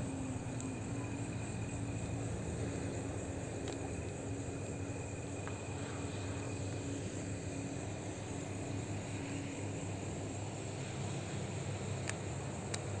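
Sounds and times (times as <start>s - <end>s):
low steady hum: 0.0s - 13.0s
night insects chirping: 0.0s - 13.0s.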